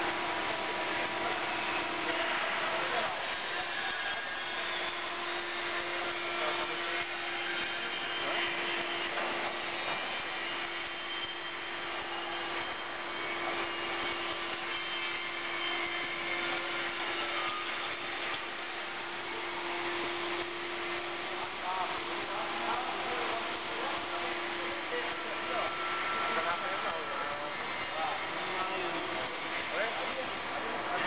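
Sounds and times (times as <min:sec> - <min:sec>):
plate-rolling machine running: 0:00.0 - 0:31.0.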